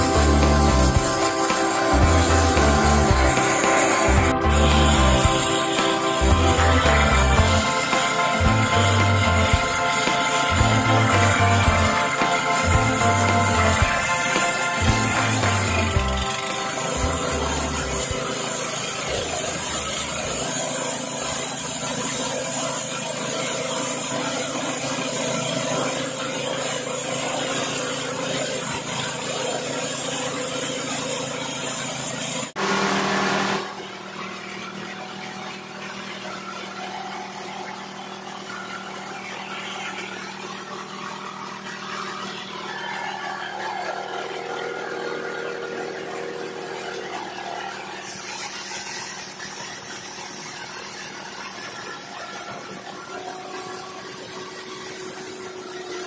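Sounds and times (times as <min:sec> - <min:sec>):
thresher engine running: 0:00.0 - 0:56.0.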